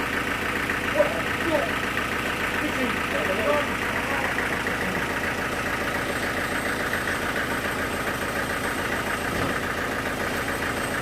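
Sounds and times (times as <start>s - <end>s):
sawmill machinery pulsing: 0.0s - 11.0s.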